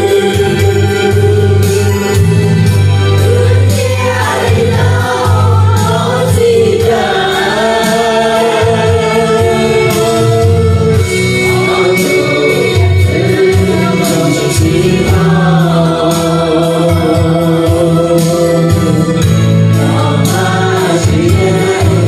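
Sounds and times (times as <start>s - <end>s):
group of voices singing: 0.0s - 22.0s
instrumental backing with bass: 0.0s - 22.0s.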